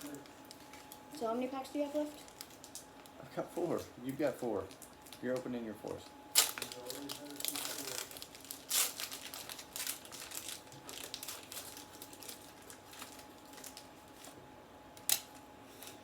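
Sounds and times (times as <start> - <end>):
foil wrapper crinkling: 0.0 - 14.4, 15.0 - 16.0.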